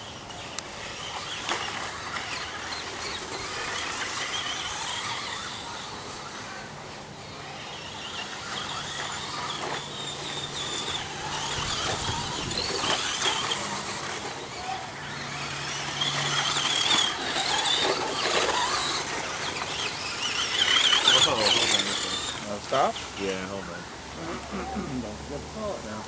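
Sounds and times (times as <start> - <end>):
rc truck motors whining: 0.0 - 26.0.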